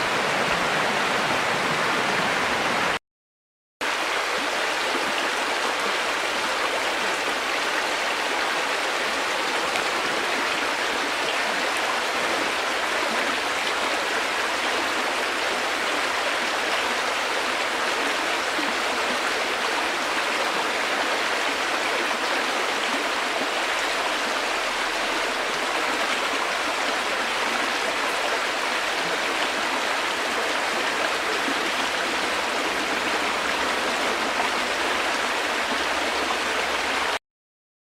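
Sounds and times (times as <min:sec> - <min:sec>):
river flowing over rocks: 0:00.0 - 0:03.0, 0:03.9 - 0:37.2.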